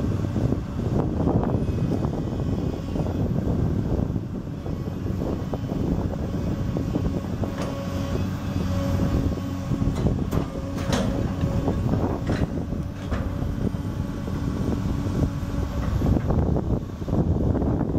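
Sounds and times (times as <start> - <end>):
diesel engine running: 0.0 - 17.9
hydraulics whining: 0.0 - 17.9.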